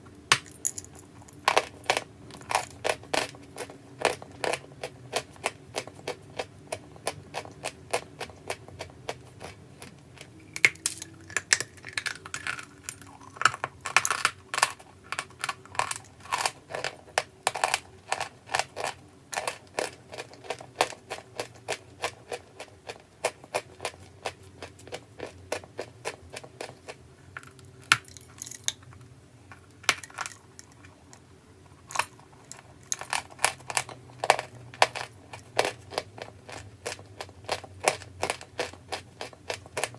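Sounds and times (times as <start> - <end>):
crunchy clay being chewed: 0.3 - 28.7, 29.5 - 39.9.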